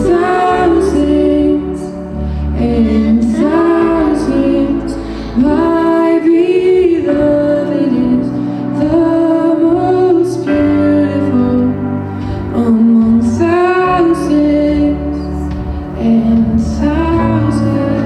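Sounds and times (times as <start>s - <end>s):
instrumental backing: 0.0s - 18.0s
woman singing: 0.0s - 18.0s.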